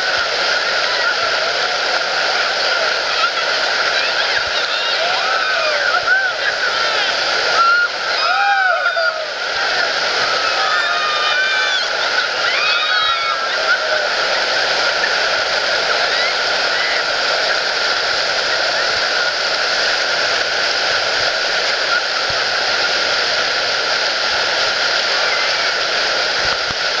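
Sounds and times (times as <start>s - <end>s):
river rapids rushing: 0.0s - 27.0s.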